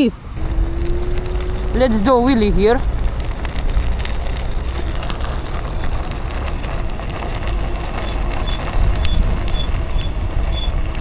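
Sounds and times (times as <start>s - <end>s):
wind buffeting microphone: 0.2s - 11.0s
electric scooter rumble: 0.3s - 11.0s.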